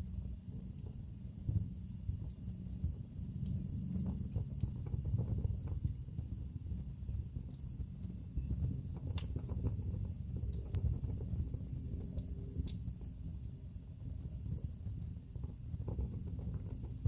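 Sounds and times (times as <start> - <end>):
burning logs crackling and popping: 0.0 - 17.0
fire flames rumbling: 0.0 - 17.0.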